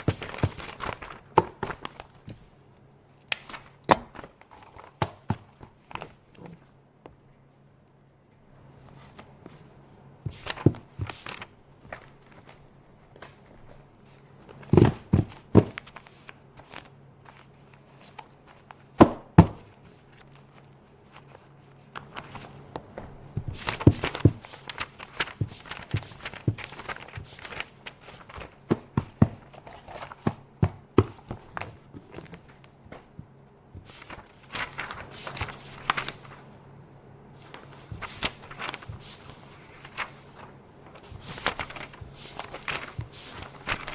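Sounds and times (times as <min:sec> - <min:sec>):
paper sheets rustling: 0:00.0 - 0:06.7, 0:08.8 - 0:36.6, 0:37.3 - 0:43.9.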